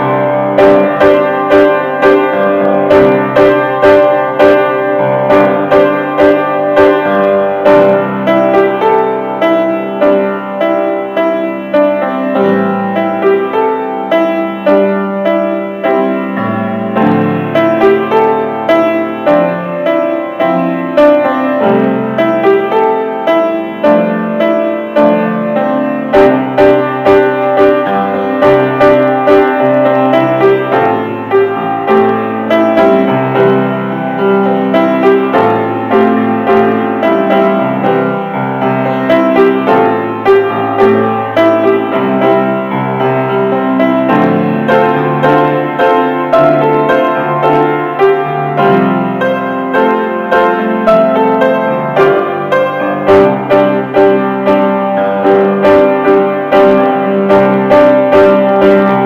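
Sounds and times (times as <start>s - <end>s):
piano piece: 0.0s - 59.0s.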